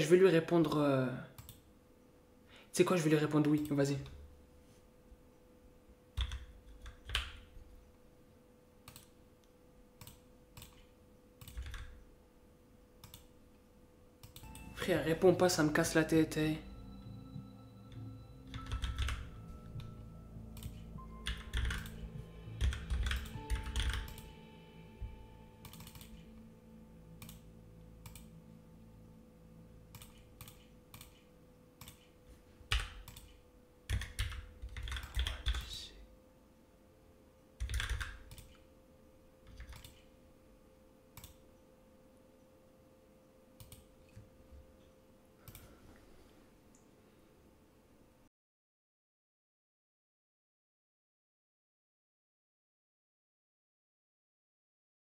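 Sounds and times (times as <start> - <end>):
faint steady hum: 0.0 - 48.3.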